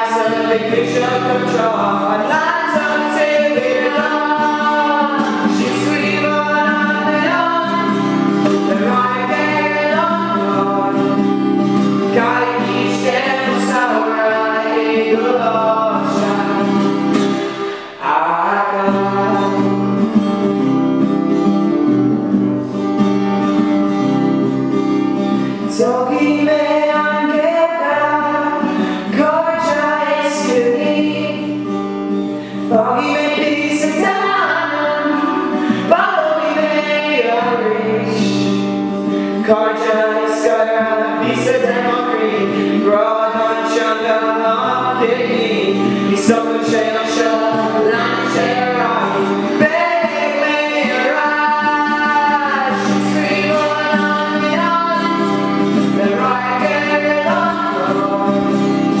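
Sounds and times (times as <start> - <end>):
song with sung vocals: 0.0 - 21.4, 23.3 - 59.0.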